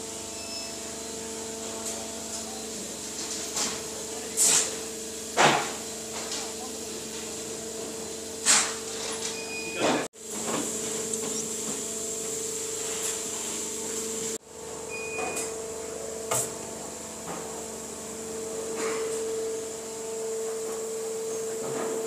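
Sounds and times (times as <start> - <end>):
factory machinery hum: 0.0 - 22.0.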